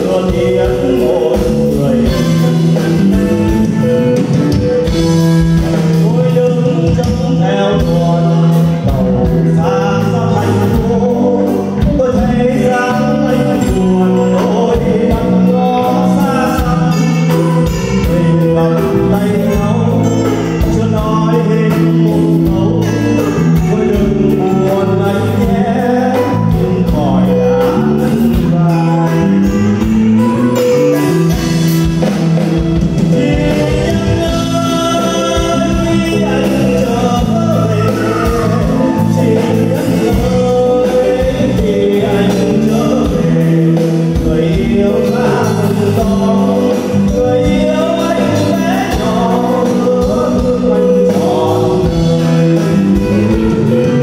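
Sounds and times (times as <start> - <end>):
live band playing: 0.0 - 54.0
man singing into microphone: 0.0 - 54.0.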